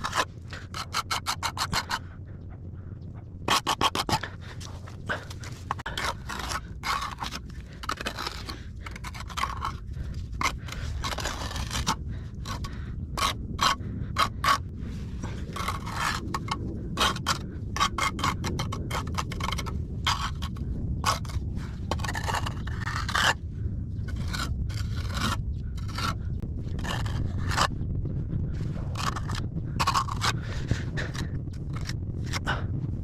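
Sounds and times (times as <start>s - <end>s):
hand tool scraping wet mortar: 0.0s - 2.0s, 3.5s - 23.4s, 24.1s - 27.7s, 28.8s - 32.6s.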